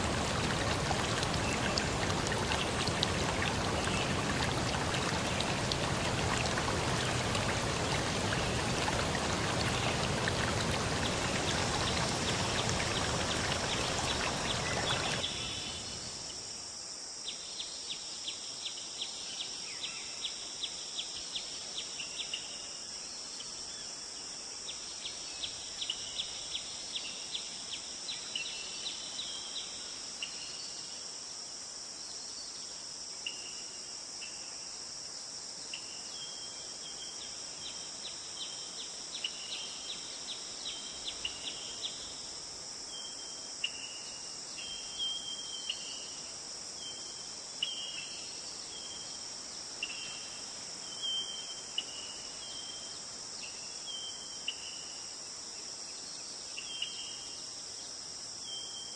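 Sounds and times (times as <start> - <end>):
high insect chorus: 0.0 - 58.9.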